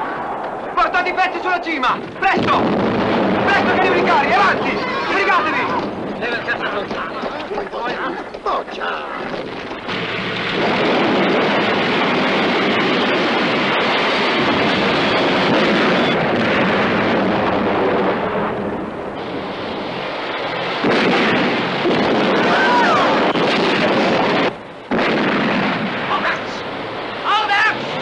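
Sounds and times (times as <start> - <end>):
rumble of explosions: 0.0 - 28.0.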